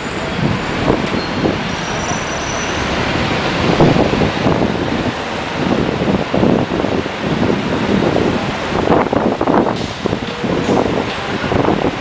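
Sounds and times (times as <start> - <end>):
passing street traffic: 0.0 - 12.0
wind buffeting microphone: 0.0 - 12.0.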